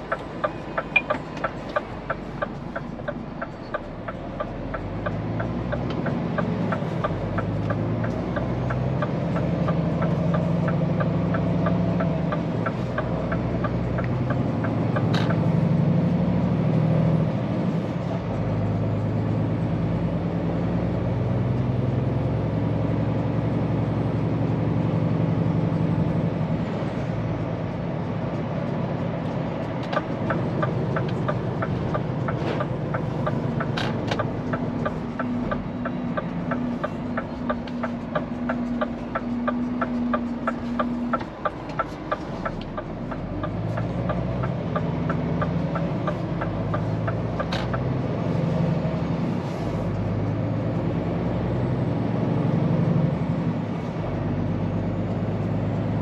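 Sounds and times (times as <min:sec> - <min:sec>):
turn signal ticking: 0:00.0 - 0:25.4, 0:27.6 - 0:52.3
truck diesel engine running: 0:00.0 - 0:56.0.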